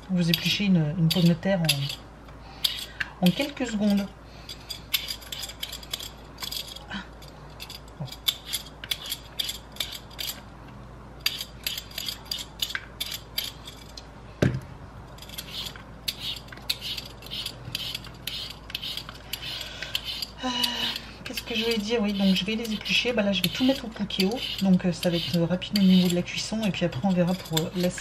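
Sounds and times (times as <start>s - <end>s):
peeler scraping potatoes: 0.0s - 10.5s, 11.2s - 14.0s, 15.1s - 28.0s.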